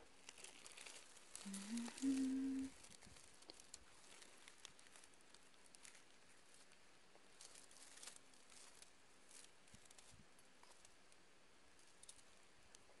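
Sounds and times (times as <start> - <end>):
rustling of leaves and grass: 0.1 - 11.0.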